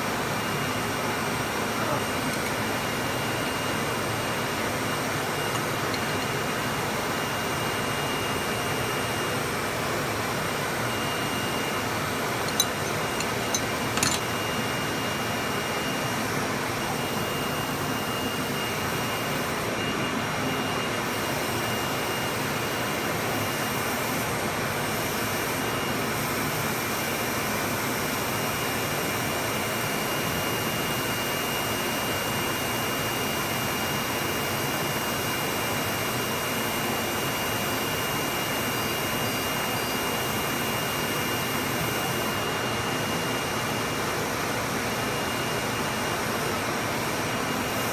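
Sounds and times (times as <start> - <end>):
shop machinery running: 0.0 - 47.9.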